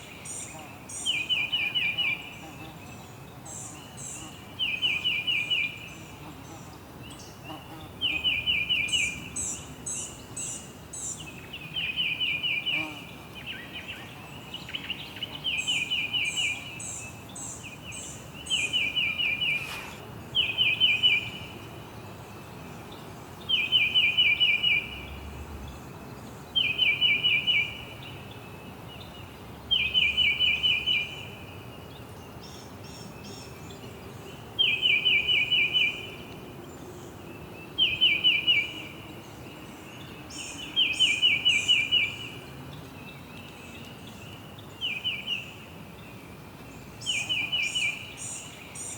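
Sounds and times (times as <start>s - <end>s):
background hiss: 0.0s - 48.9s.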